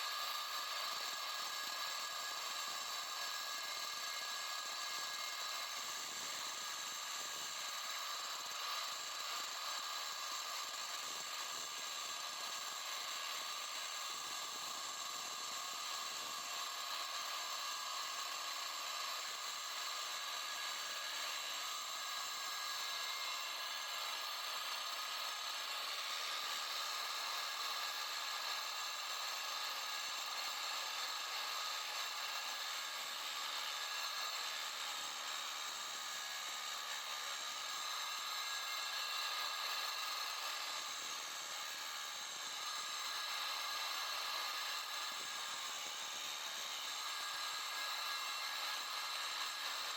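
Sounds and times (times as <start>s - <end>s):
angle grinder cutting concrete: 0.0s - 49.9s.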